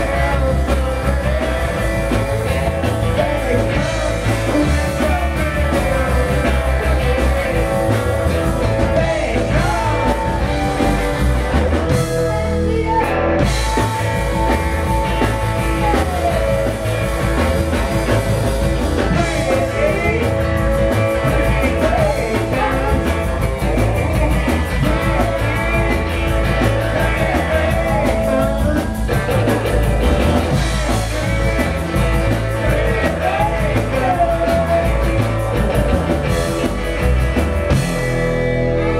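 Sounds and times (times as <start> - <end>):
drum kit beat: 0.0 - 38.9
electric guitar: 0.0 - 38.9
upright double bass: 0.0 - 38.9.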